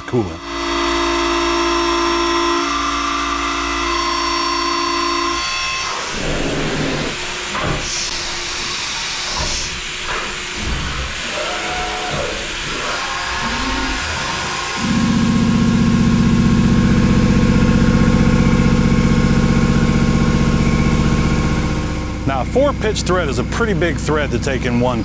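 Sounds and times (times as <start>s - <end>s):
boring mill whining: 0.0s - 25.0s.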